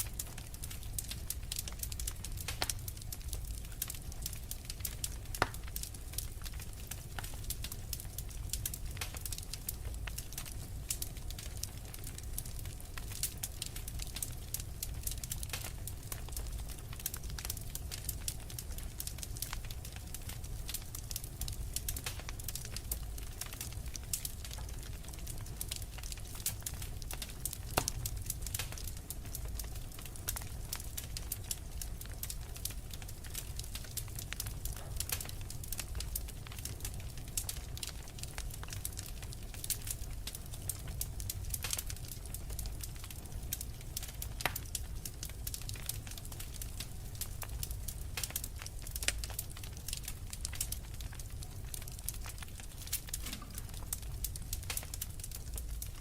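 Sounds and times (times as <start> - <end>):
logs crackling in a fireplace: 0.0 - 56.0.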